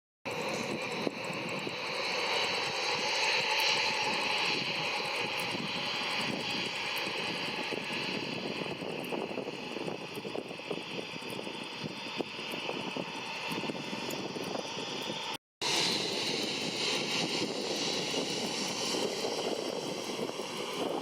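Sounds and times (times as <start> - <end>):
jet engines at takeoff power: 0.3 - 21.0.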